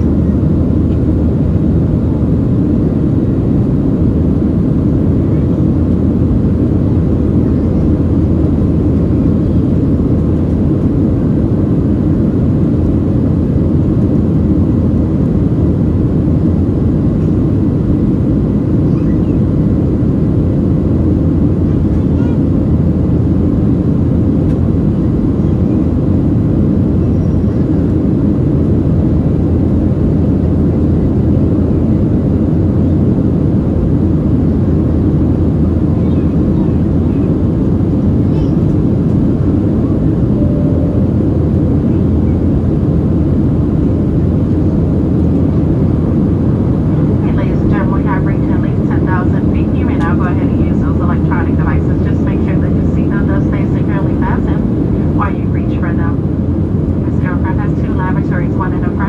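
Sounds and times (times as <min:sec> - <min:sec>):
jet engine roar in cabin: 0:00.0 - 0:59.0.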